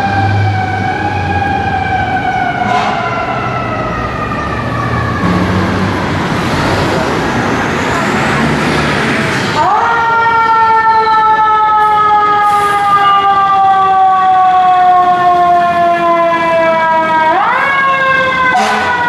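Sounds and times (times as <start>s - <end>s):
fire truck siren wailing: 0.0s - 19.0s.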